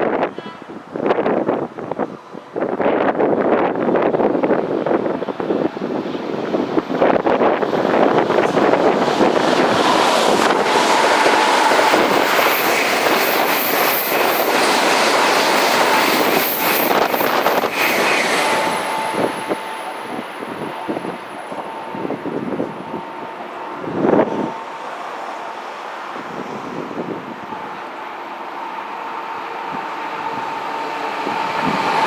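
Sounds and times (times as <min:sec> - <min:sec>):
train passing at speed: 0:00.0 - 0:32.0.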